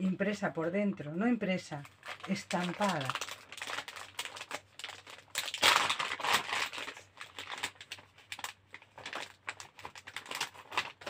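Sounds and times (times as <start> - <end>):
packaging crinkling and rustling: 1.7 - 11.0.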